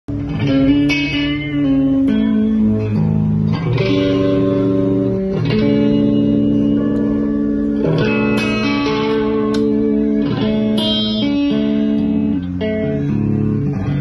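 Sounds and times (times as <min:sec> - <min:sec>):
electric guitar chords ringing: 0:00.1 - 0:14.0.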